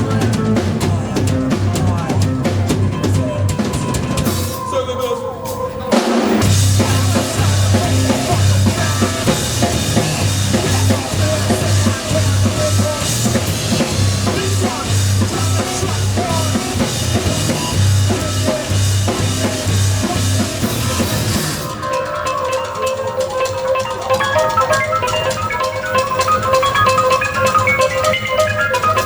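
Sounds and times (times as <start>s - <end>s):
pulsing bass line: 0.0s - 4.5s, 6.4s - 29.0s
live rock band playing: 0.0s - 29.0s
pounding drum kit: 0.0s - 29.0s.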